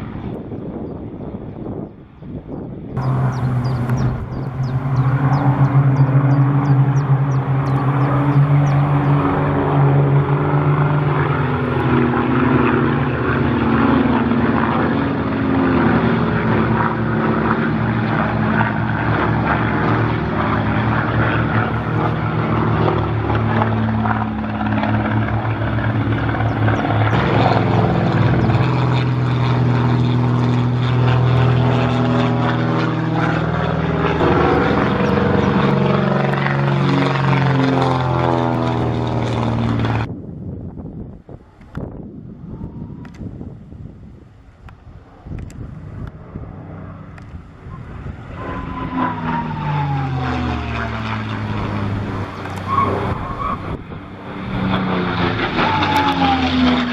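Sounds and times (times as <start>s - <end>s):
propeller plane engines flying past: 0.0s - 56.9s.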